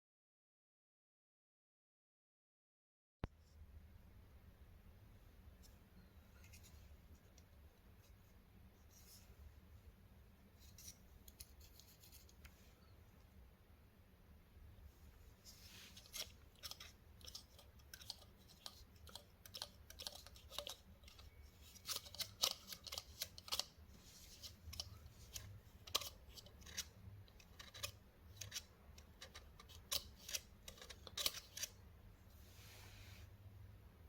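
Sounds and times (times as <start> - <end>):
faint low hum: 3.2 - 34.0.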